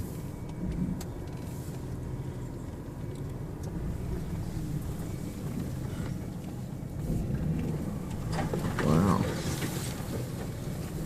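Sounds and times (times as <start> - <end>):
car driving heard from inside: 0.0 - 11.0.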